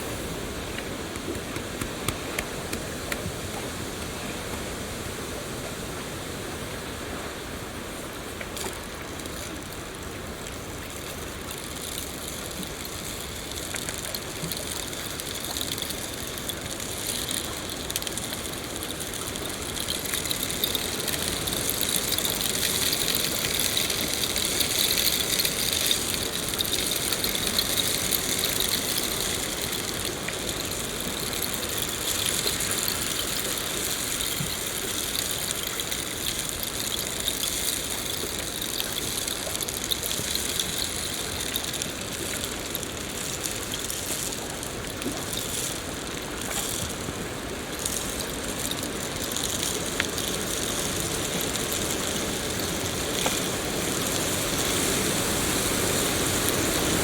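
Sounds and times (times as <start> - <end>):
rain falling: 8.6 - 57.0.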